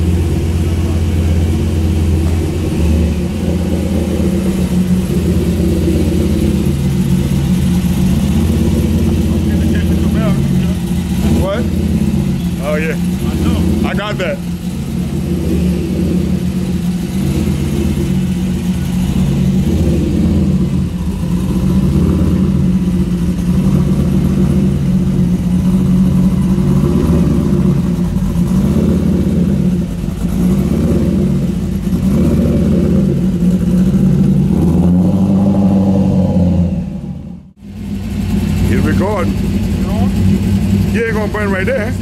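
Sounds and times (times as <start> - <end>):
car engine running at low revs: 0.0 - 42.0.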